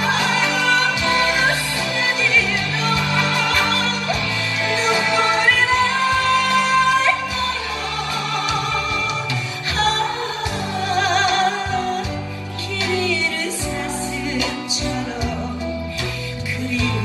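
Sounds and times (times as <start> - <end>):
backing track with bass line: 0.0 - 17.0
person singing ballad with vibrato: 0.0 - 17.0.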